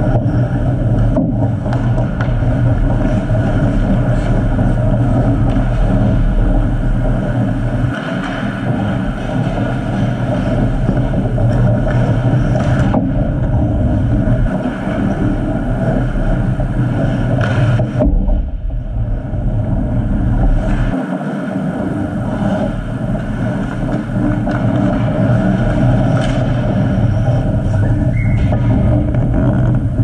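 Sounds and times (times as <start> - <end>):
indoor rink rumble: 0.0 - 30.0.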